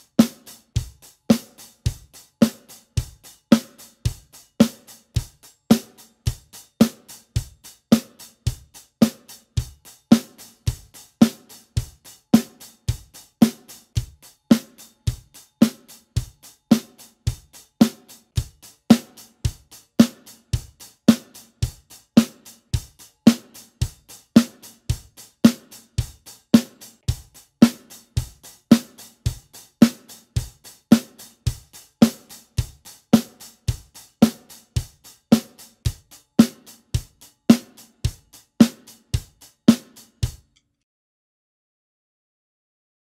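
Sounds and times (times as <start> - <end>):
bass drum: 0.0 - 40.4
hi-hat: 0.0 - 40.5
snare drum: 0.0 - 40.5.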